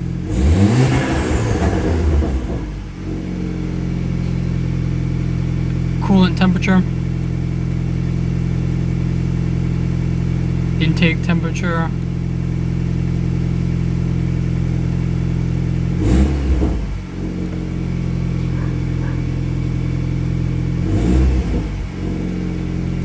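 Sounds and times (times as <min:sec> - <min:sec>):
car engine idling: 0:00.0 - 0:23.0
engine throttle blips: 0:00.0 - 0:23.0.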